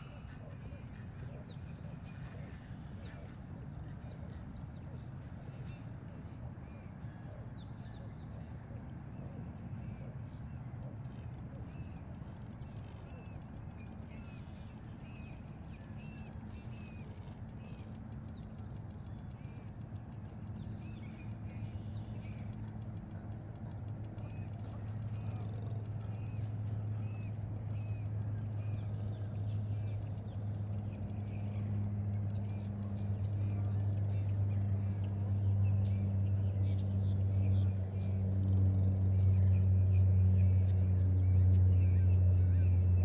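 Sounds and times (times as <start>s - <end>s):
birds chirping: 0.0s - 43.0s
low steady hum: 0.0s - 43.0s.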